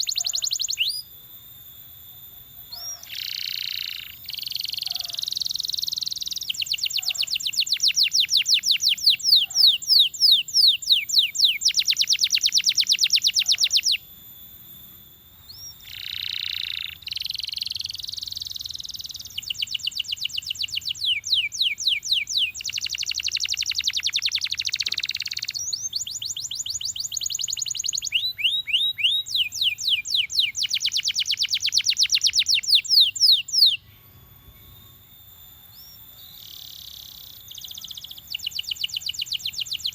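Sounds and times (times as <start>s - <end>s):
canary singing trills: 0.0s - 1.2s, 2.2s - 14.1s, 15.4s - 39.9s.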